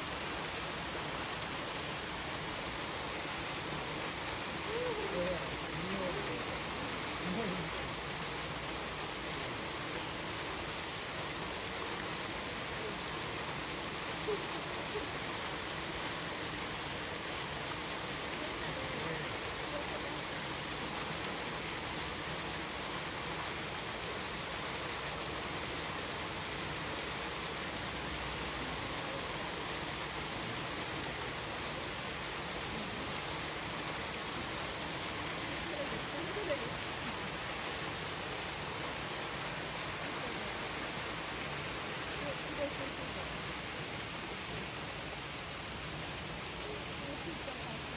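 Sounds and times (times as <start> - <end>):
running water rushing: 0.0 - 47.9
steady background hiss: 0.0 - 47.9.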